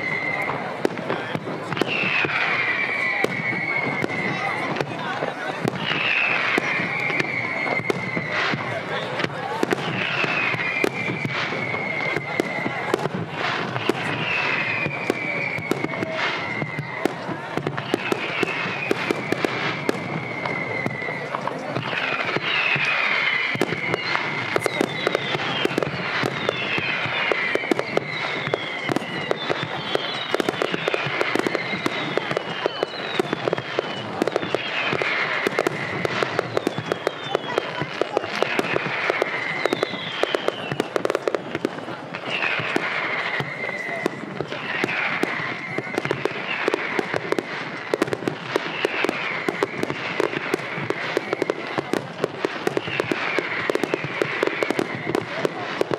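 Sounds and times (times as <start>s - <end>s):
fireworks bangs and crackling: 0.0s - 55.9s
fireworks whistles falling in pitch: 0.0s - 55.9s.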